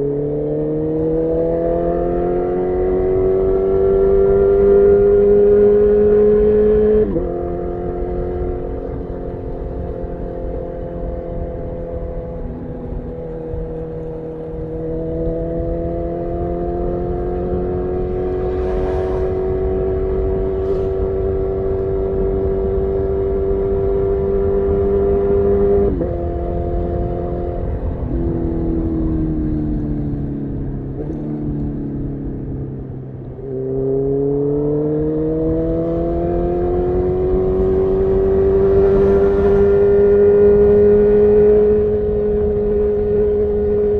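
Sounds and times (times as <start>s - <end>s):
motorcycle engine revving: 0.0s - 32.1s, 33.2s - 43.9s.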